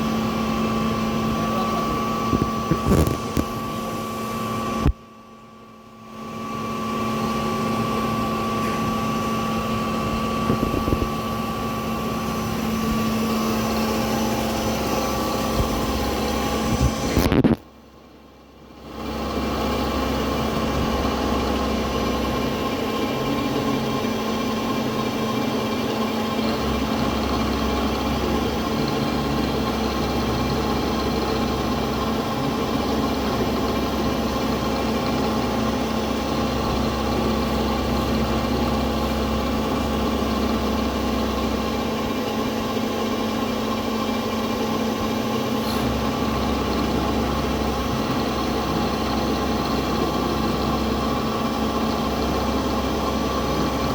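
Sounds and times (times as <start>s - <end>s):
milling machine humming: 0.0s - 53.9s.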